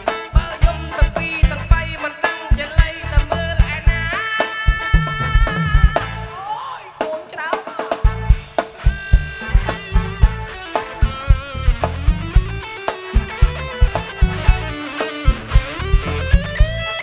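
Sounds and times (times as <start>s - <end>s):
keyboard melody: 0.0s - 6.7s, 8.1s - 17.0s
drum kit beat: 0.0s - 17.0s
live band dance music: 0.0s - 17.0s.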